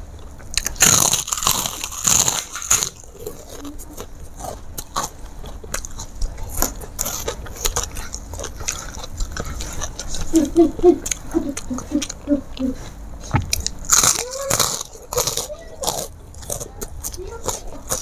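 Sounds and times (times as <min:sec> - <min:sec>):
chewing mouth sounds: 0:00.0 - 0:18.0
crunching a crisp cracker: 0:00.2 - 0:10.4, 0:13.4 - 0:18.0.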